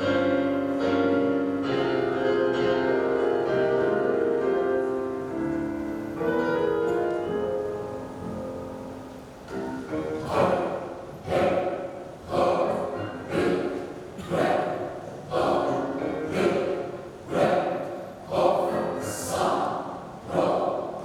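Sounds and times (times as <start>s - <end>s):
piano sustained chords: 0.0s - 21.0s.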